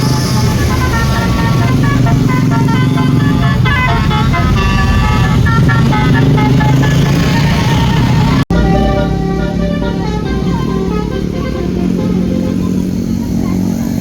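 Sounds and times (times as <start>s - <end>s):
bus engine running: 0.0s - 14.0s
multi-tone bus horn tune: 0.0s - 14.0s.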